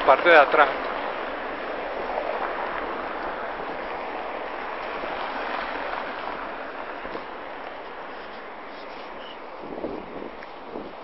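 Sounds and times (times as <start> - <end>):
passers-by: 0.0 - 11.0
traffic hiss: 0.0 - 11.0.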